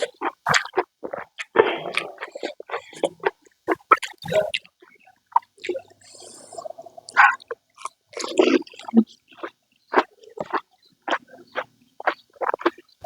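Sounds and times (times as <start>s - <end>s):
crunching and chewing food: 0.0s - 13.0s
wet mouth sounds: 0.0s - 13.0s.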